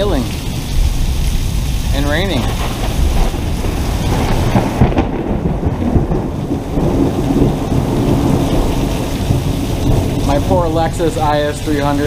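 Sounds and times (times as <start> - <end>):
heavy rain and hail on pavement: 0.0 - 12.0.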